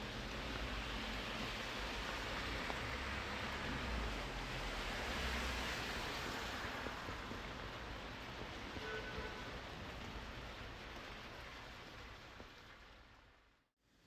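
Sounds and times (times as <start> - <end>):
rain drops ticking: 0.0 - 13.7
steady rainfall: 0.0 - 14.0.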